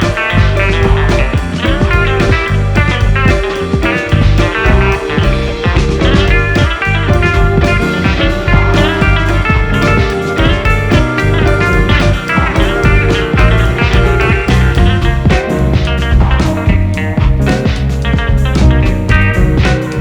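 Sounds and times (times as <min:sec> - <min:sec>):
rock music with electric guitar: 0:00.0 - 0:20.0.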